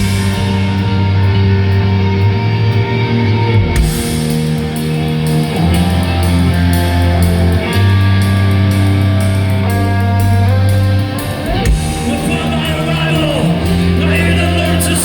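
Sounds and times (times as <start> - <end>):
drums and cymbals: 0.0 - 2.4, 3.6 - 15.0
distorted electric guitars: 0.0 - 15.0.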